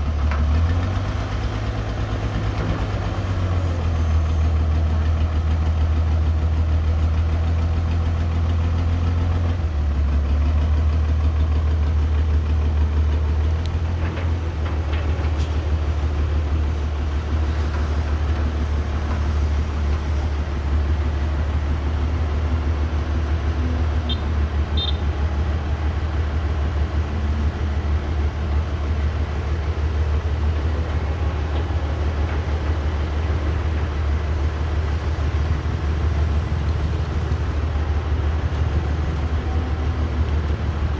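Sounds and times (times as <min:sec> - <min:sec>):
excavator diesel engine drone: 0:00.0 - 0:40.9.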